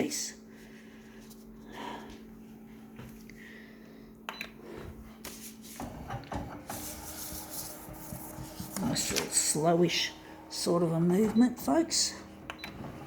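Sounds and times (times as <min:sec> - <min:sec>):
photocopier humming: 0:02.0 - 0:13.0.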